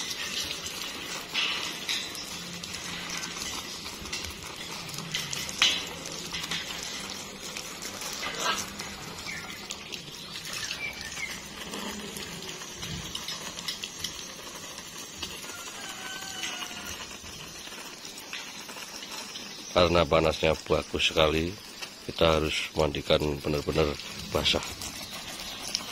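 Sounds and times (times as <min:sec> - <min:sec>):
hose water spray hissing: 0:00.0 - 0:25.9.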